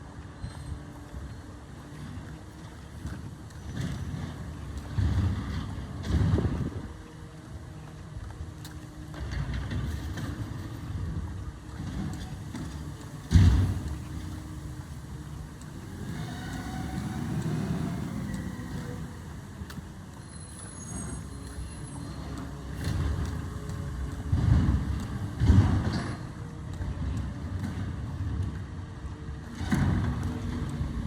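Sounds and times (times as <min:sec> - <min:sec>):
garbage truck engine rumbling: 0:00.0 - 0:31.0.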